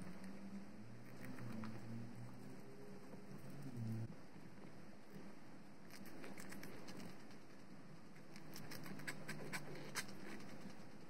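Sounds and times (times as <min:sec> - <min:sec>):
guinea pigs crunching vegetables: 0:00.0 - 0:04.0, 0:05.8 - 0:11.0.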